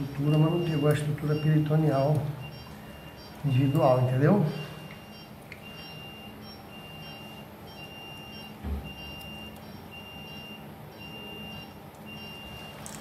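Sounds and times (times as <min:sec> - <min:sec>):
patient monitor beeping: 0:00.0 - 0:13.0.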